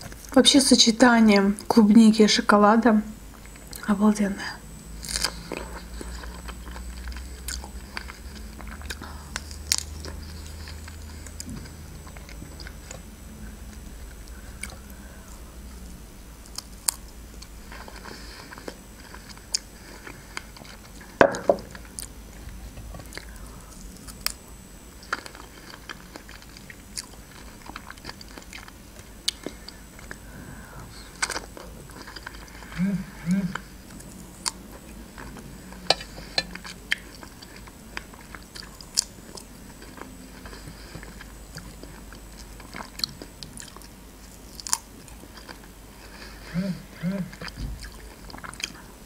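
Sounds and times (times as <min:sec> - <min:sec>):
person chewing strawberries: 0:04.8 - 0:49.0.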